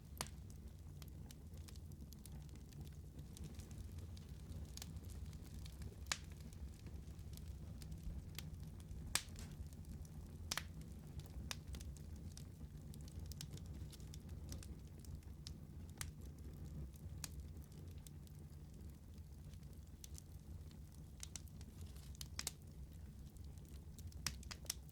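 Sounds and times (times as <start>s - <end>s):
fire low rumble: 0.0s - 24.9s
wood fire crackling and popping: 0.0s - 24.9s.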